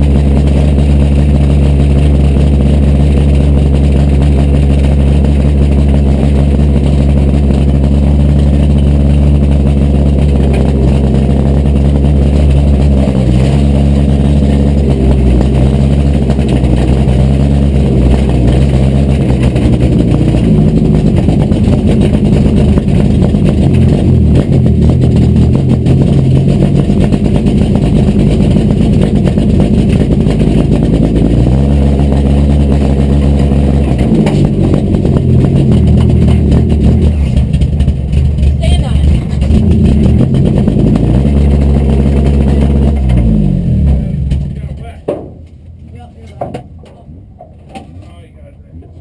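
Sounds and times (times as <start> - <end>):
race car engine running: 0.0 - 49.0.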